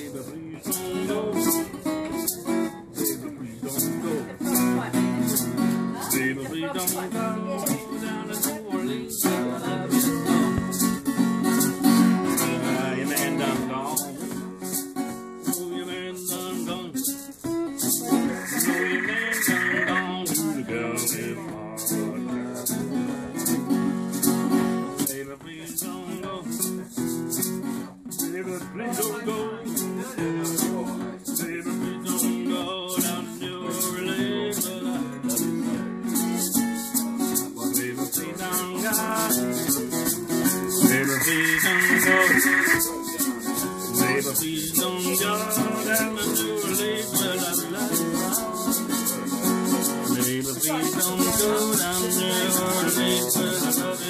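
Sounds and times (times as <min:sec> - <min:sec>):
acoustic guitar strumming blues: 0:00.0 - 0:54.0
shaker beat: 0:00.0 - 0:54.0.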